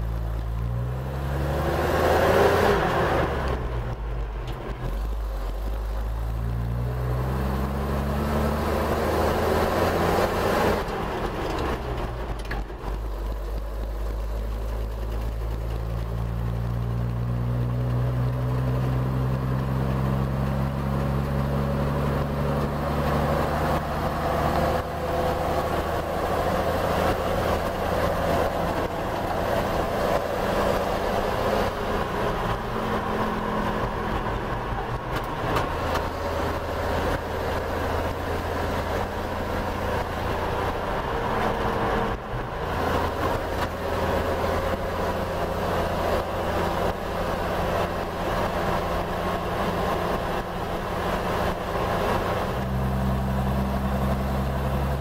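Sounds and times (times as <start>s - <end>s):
fire engine engine running: 0.0s - 55.0s
road noise: 0.0s - 55.0s.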